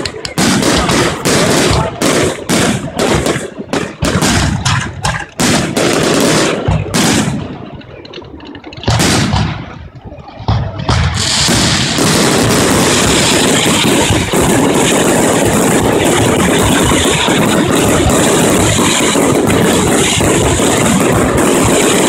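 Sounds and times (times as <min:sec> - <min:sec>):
dense rushing noise: 0:00.0 - 0:22.0
fireworks bursting with sharp bangs: 0:00.0 - 0:22.0.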